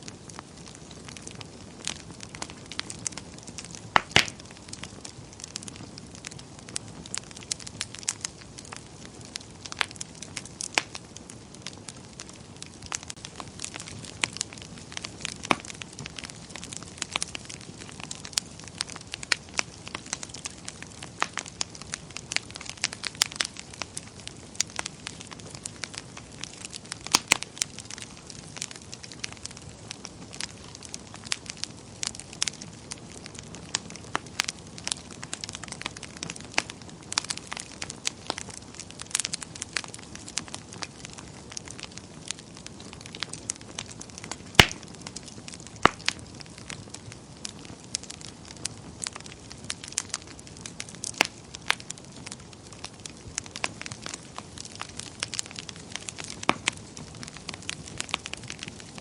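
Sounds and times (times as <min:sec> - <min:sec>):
soft steady hiss: 0:00.0 - 0:59.0
wood fire crackling: 0:00.0 - 0:59.0.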